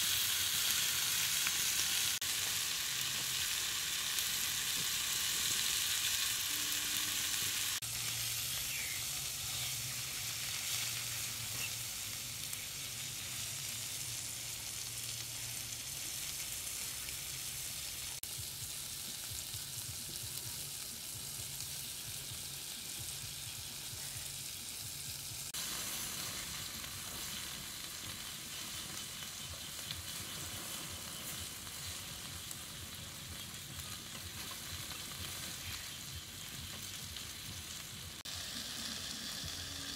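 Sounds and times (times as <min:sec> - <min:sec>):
chicken sizzling on hot stone: 0:00.0 - 0:39.9.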